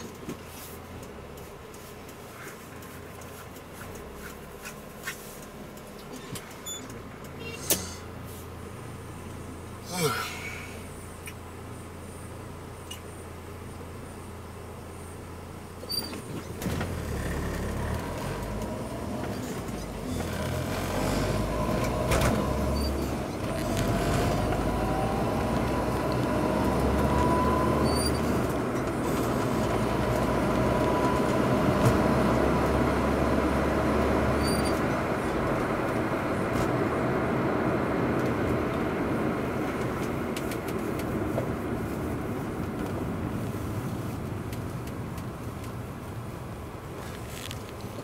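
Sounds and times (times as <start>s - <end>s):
drivetrain whine: 0.0s - 48.0s
road and tyre noise: 0.0s - 48.0s.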